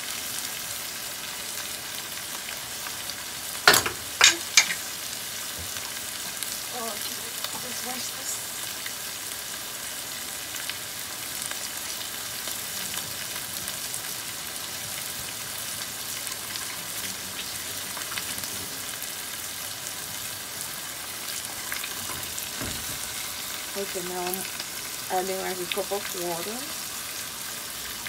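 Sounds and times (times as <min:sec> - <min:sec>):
fish sizzling in a pan: 0:00.0 - 0:28.0.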